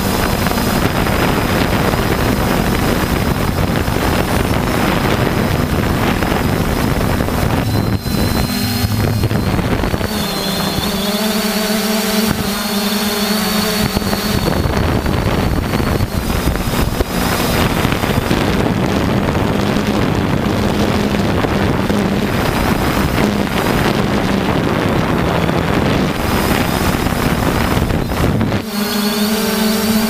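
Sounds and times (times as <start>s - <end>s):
drone propellers humming: 0.0s - 30.0s
wind buffeting microphone: 0.0s - 30.0s.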